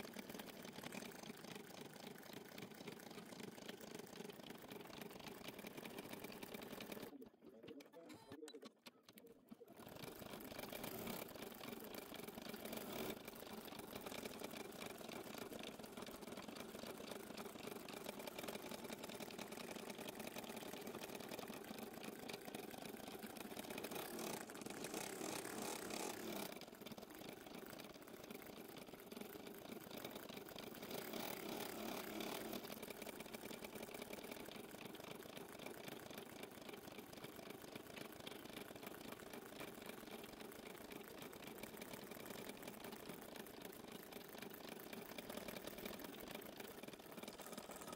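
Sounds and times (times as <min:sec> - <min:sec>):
embroidery machine stitching: 0:00.0 - 0:47.9.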